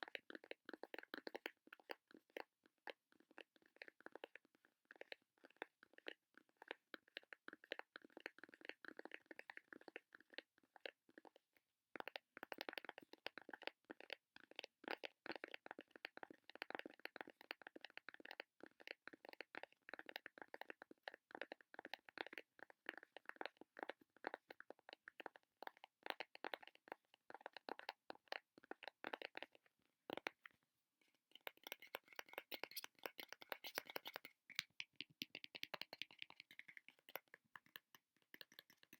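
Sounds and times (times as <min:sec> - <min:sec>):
fast tapping and sticky sounds: 0:00.0 - 0:38.9.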